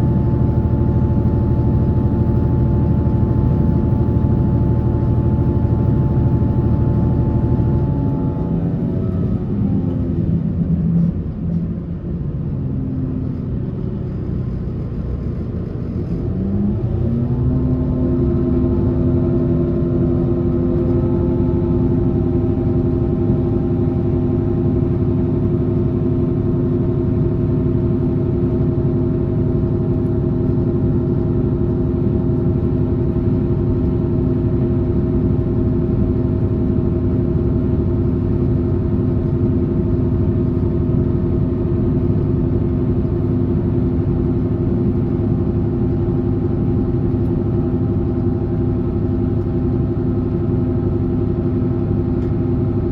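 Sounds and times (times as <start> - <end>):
train drive whine: 0.0 - 52.9
wheels rumbling on track: 0.0 - 52.9.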